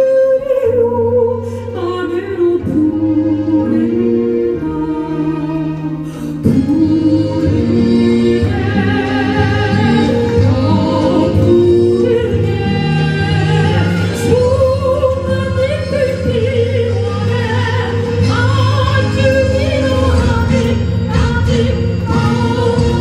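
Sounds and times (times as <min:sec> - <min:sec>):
musical accompaniment: 0:00.0 - 0:23.0
woman singing classical soprano: 0:00.0 - 0:23.0.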